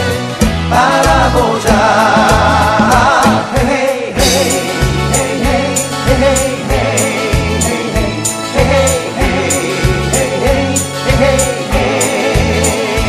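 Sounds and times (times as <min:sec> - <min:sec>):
bass line: 0:00.0 - 0:13.0
steady beat: 0:00.4 - 0:13.0
person singing: 0:00.7 - 0:13.0.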